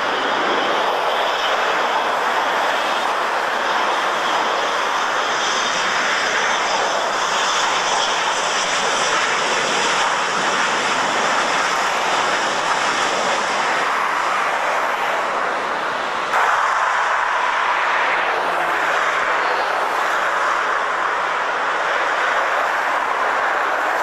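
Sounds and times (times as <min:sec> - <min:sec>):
jet engine noise: 0:00.0 - 0:24.0.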